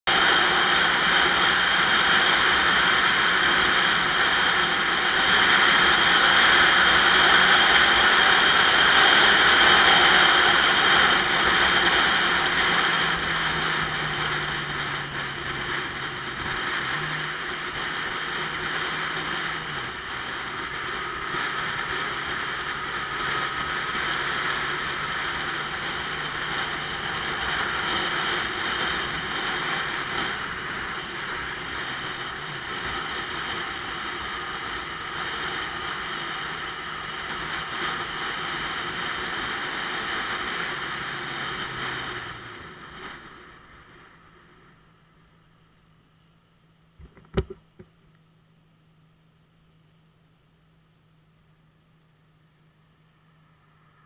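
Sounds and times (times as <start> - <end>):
motorcycle engine running: 0.0 - 46.3, 47.0 - 48.1.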